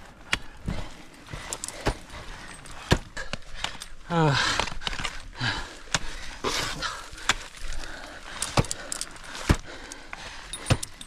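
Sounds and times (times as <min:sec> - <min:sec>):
ice tools striking and scraping ice: 0:01.3 - 0:11.0.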